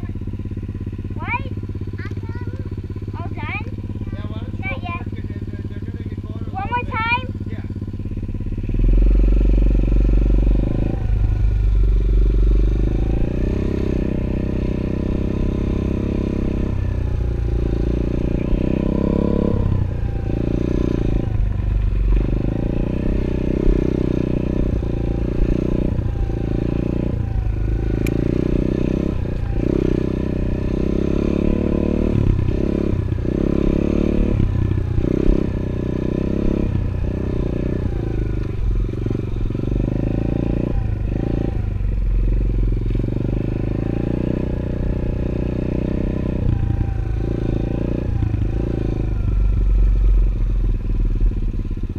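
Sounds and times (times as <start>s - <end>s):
motorbike engine revving: 0.0s - 51.9s.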